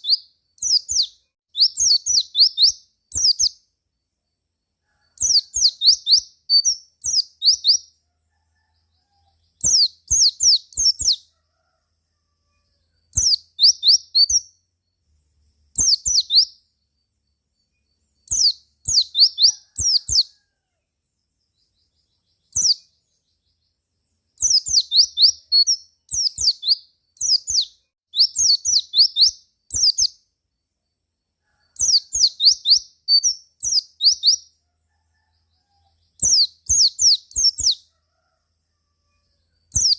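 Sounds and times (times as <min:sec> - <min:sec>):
bird twittering high chirps: 0:00.0 - 0:04.4, 0:05.1 - 0:08.0, 0:08.6 - 0:11.3, 0:13.0 - 0:20.4, 0:21.4 - 0:31.0, 0:31.7 - 0:37.9, 0:39.7 - 0:39.9.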